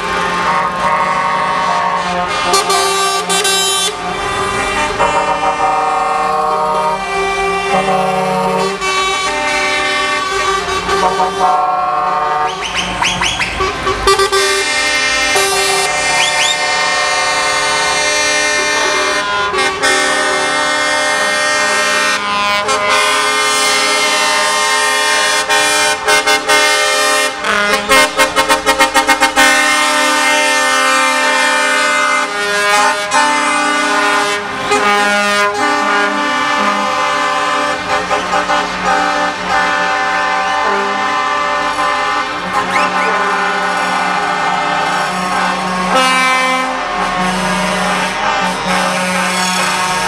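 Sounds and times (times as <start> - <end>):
truck air horns: 0.0 - 50.0.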